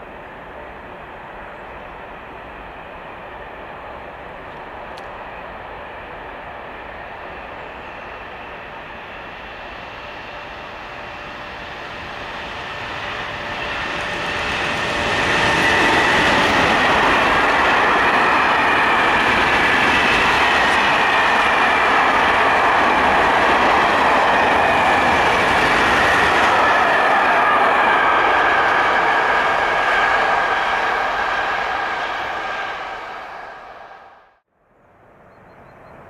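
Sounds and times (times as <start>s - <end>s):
freight train passing: 0.0s - 36.0s.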